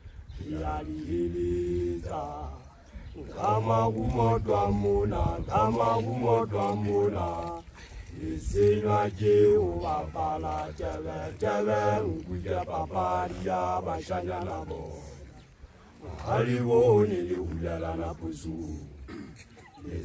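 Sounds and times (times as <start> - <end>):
men chanting a cappella: 0.0 - 19.2, 19.8 - 20.0.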